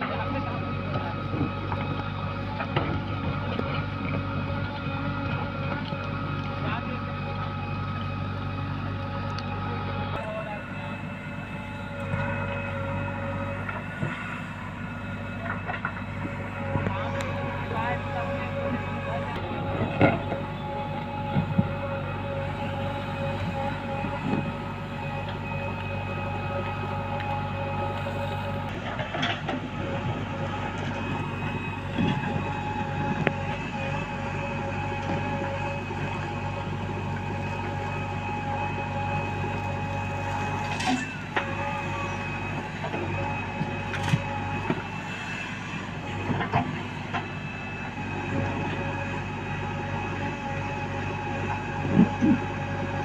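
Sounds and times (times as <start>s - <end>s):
diesel engine running: 0.0s - 53.0s
steady whine: 0.0s - 53.0s.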